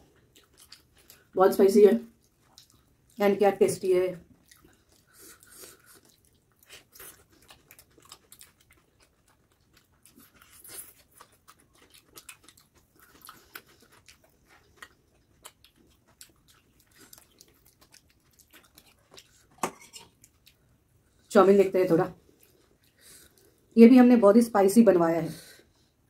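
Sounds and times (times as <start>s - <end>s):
people chewing food: 0.0s - 3.4s, 4.2s - 21.3s, 21.9s - 23.8s.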